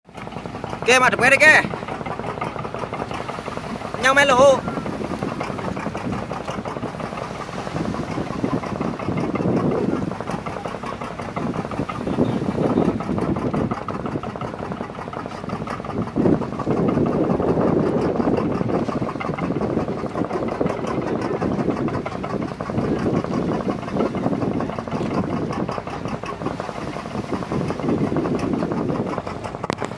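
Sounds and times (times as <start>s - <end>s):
motorboat engine knocking: 0.0s - 29.9s.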